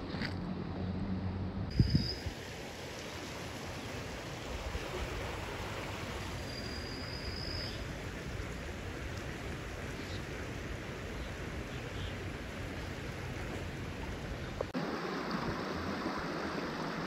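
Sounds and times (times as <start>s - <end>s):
creek rushing: 1.7s - 17.0s.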